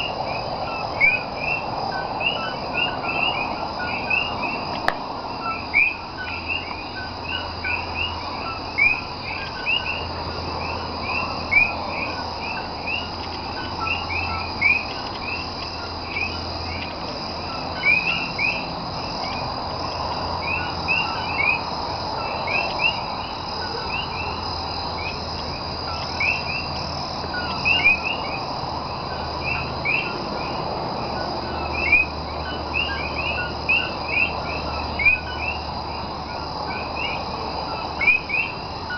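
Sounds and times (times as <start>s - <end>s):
frogs calling in chorus: 0.0s - 38.9s.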